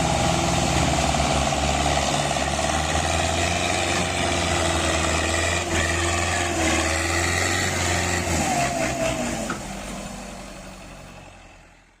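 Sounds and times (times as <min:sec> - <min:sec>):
diesel tractor engines running: 0:00.0 - 0:12.0.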